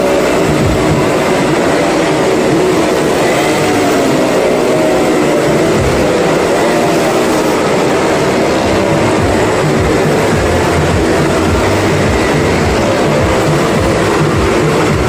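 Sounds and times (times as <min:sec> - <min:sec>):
car and motorcycle engines droning: 0:00.0 - 0:15.0.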